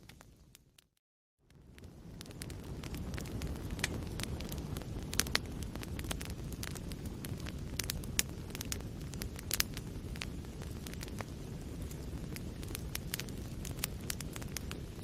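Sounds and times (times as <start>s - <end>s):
fire crackling and popping: 0.0s - 15.0s
low rumble of flames: 1.4s - 15.0s.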